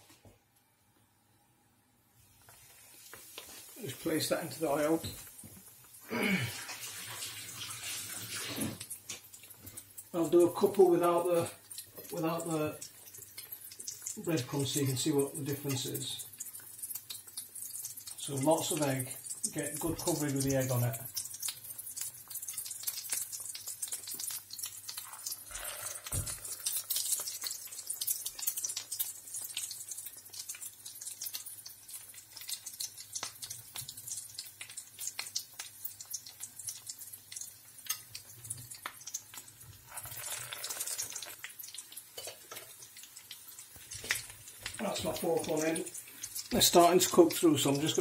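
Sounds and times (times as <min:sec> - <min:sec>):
oil sizzling in a frying pan: 0:02.2 - 0:48.0.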